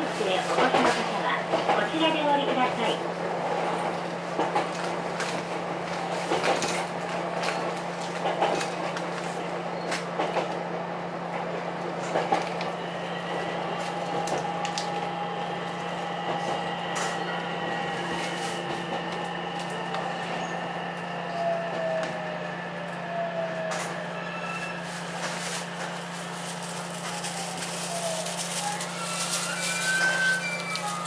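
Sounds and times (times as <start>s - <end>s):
electric railcar hum and motor whine: 0.0s - 31.0s.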